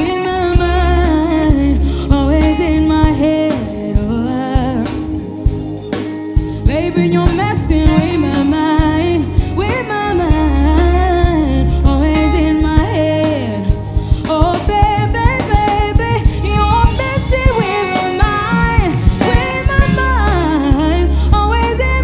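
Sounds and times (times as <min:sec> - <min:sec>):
person singing: 0:00.0 - 0:05.5, 0:06.6 - 0:22.0
band with deep bass: 0:00.0 - 0:22.0
steady drum beat: 0:00.0 - 0:22.0.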